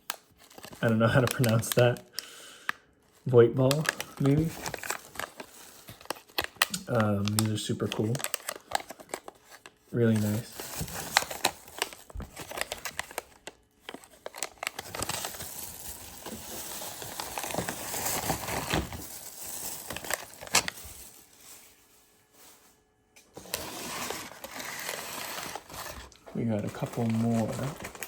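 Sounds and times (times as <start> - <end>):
packaging crinkling and rustling: 0.0 - 2.2, 3.0 - 28.0.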